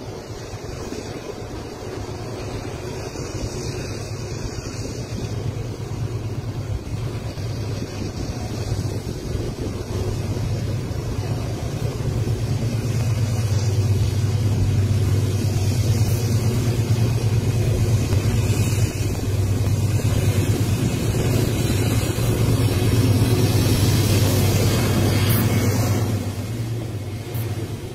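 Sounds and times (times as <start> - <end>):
diesel locomotive engine drone: 0.0 - 27.9
wagons rumbling on rails: 0.0 - 27.9.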